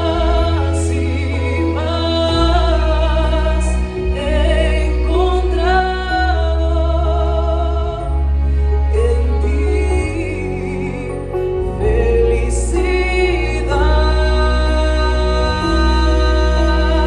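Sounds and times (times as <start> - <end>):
gospel singing with vibrato: 0.0 - 17.0
low bass accompaniment: 0.0 - 17.0.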